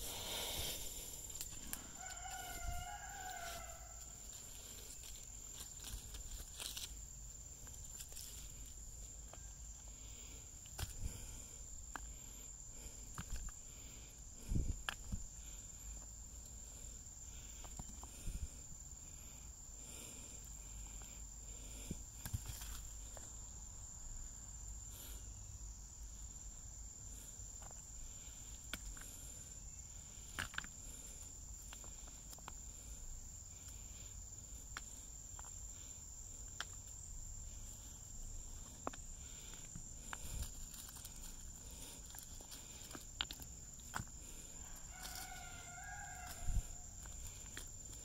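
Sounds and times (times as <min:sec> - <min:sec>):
insect chirring: 0:00.0 - 0:48.0.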